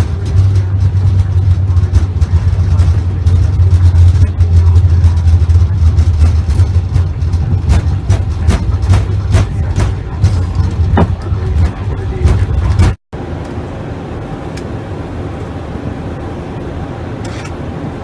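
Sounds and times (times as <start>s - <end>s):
aircraft engine and airflow hum: 0.0s - 18.0s
airliner rumbling on runway: 0.0s - 18.0s.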